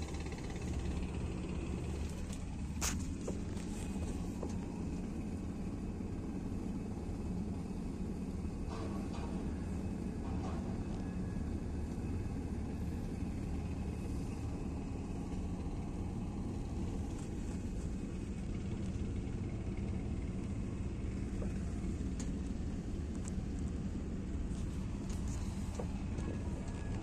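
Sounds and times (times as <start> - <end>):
vehicle engine rumble from inside: 0.0 - 27.0.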